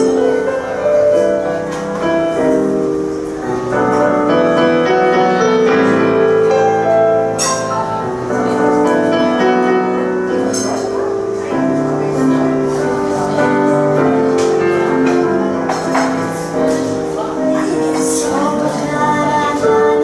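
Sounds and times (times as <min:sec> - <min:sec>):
grand piano chords: 0:00.0 - 0:20.0.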